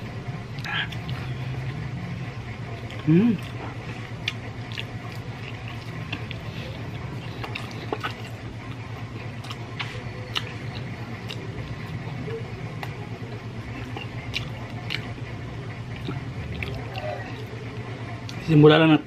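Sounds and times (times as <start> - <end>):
steady low hum: 0.0 - 19.0
chewing chicken: 0.5 - 1.8, 2.7 - 18.5.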